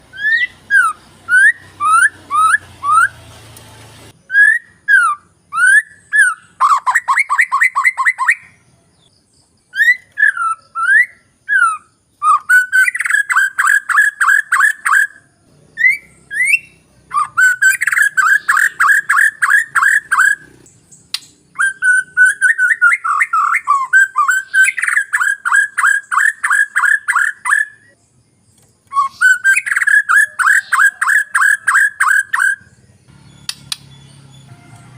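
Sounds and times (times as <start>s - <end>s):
bird singing whistled phrases: 0.1s - 3.2s, 4.2s - 8.6s, 9.7s - 28.0s, 28.9s - 34.3s.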